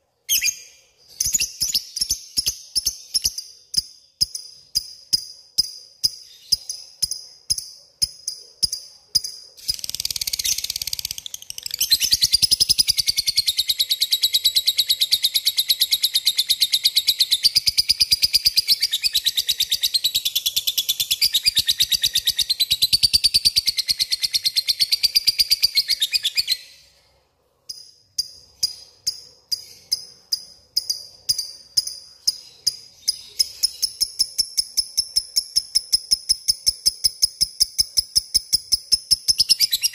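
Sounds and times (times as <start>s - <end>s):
lovebird chirps: 0.1s - 27.0s, 27.7s - 39.9s.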